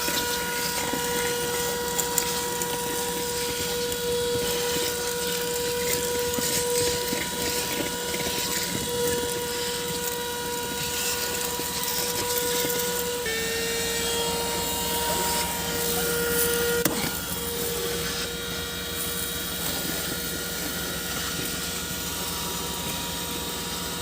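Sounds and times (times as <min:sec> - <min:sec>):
car vacuum cleaner whining: 0:00.0 - 0:24.0.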